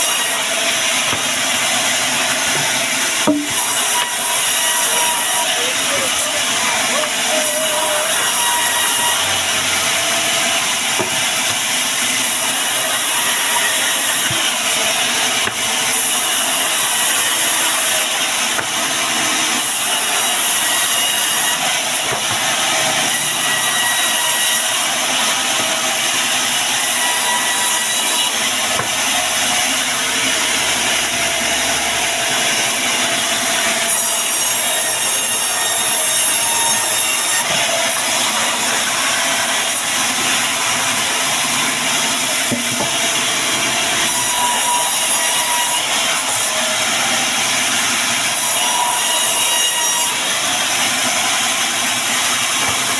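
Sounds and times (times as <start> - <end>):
band saw cutting wood: 0.0 - 52.9.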